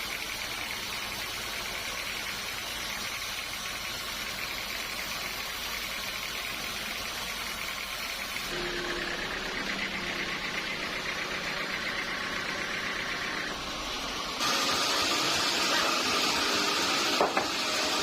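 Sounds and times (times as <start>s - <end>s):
sawmill machinery hum: 0.0s - 18.0s.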